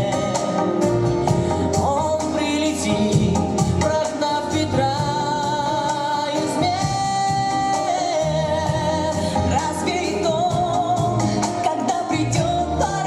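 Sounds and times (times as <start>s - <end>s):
person singing with vibrato: 0.0s - 13.0s
steady bass line: 0.0s - 13.0s.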